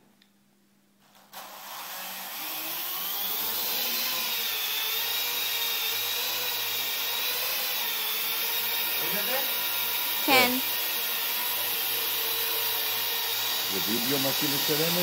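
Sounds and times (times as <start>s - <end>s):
drone rotors whirring: 1.7s - 15.0s.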